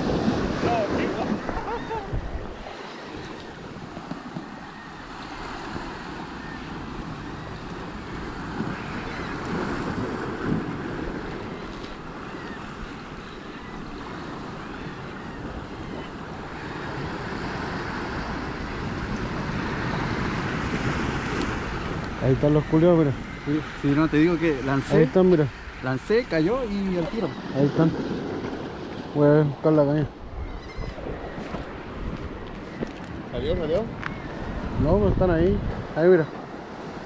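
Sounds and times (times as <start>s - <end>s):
sea surf breaking on rocks: 0.0s - 30.3s
wind buffeting microphone: 0.0s - 37.0s.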